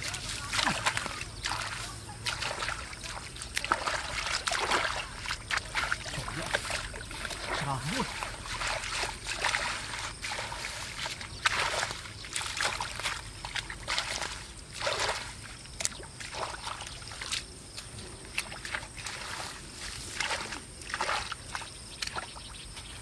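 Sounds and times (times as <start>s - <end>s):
hands sloshing in muddy water: 0.0s - 23.0s.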